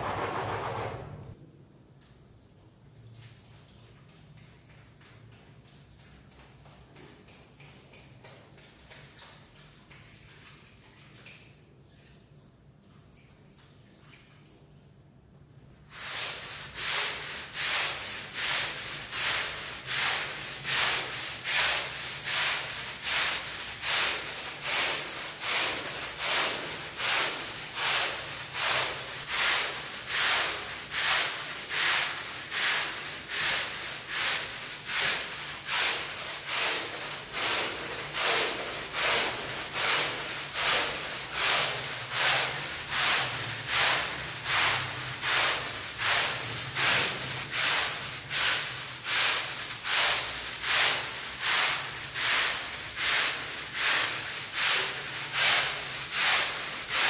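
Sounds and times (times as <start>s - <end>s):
scrub brush scrubbing wet rug: 0.0s - 1.1s, 3.2s - 11.4s, 15.9s - 57.0s.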